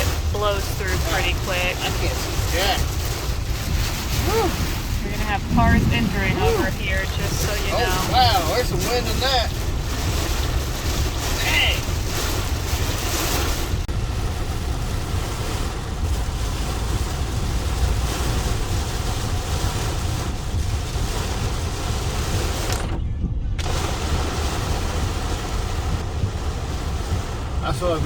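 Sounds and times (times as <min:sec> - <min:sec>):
car rumbling on the road: 0:00.0 - 0:28.0
rain lashing a moving car: 0:00.0 - 0:28.0.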